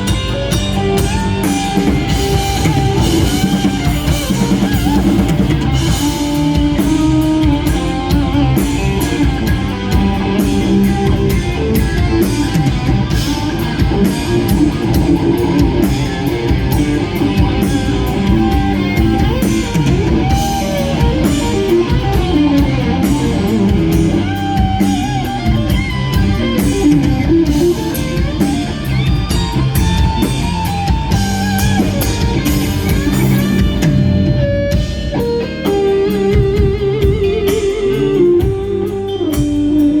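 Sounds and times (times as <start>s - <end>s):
drum kit: 0.0s - 40.0s
lead electric guitar melody: 0.0s - 40.0s.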